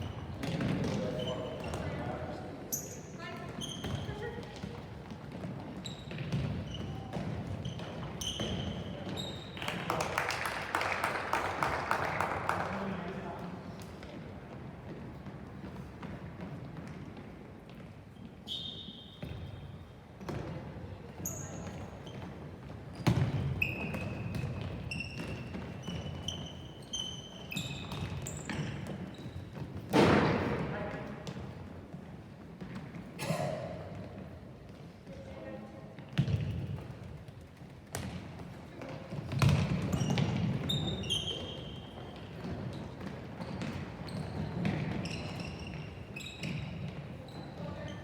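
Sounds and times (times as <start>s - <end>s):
shoes squeaking on court: 0.0s - 9.9s, 13.6s - 35.0s, 36.0s - 48.0s.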